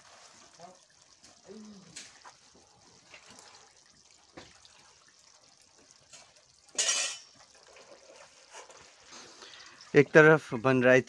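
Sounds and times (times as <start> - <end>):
burning wood crackling: 0.0 - 10.5
curry bubbling and sizzling: 0.0 - 11.0.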